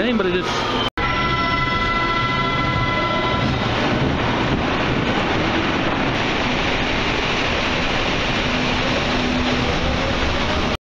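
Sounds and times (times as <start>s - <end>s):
train rushing rumble: 0.0s - 10.8s.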